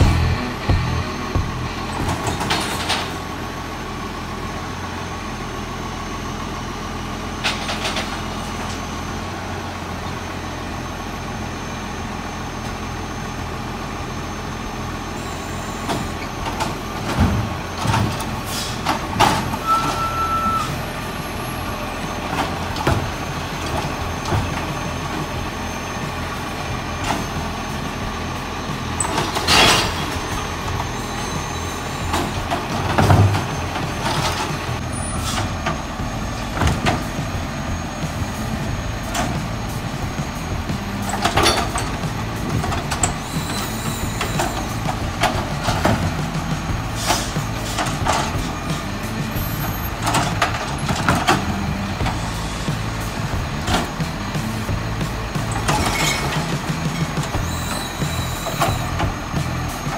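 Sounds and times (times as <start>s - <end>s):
bins and arm clanking: 0.0s - 3.5s, 7.4s - 8.9s, 15.7s - 59.9s
garbage truck engine hum: 0.0s - 59.9s
hydraulic whine: 0.0s - 59.9s.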